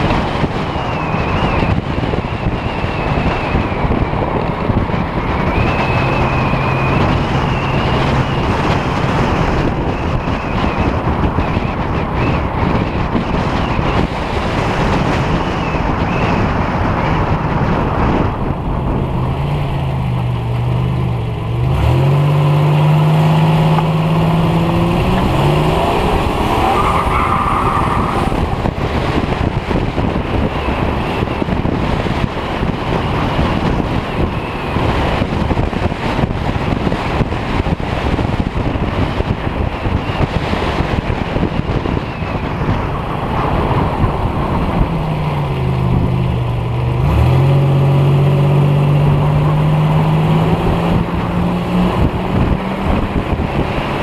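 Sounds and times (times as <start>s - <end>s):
road noise: 0.0s - 54.0s
wind buffeting microphone: 0.0s - 54.0s
car engine accelerating: 0.1s - 39.7s, 40.4s - 54.0s.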